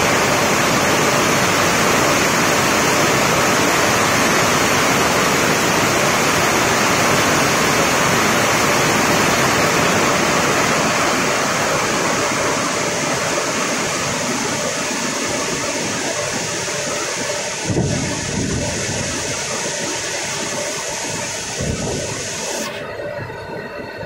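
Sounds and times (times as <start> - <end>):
heavy rain on flooded pavement: 0.0 - 23.0.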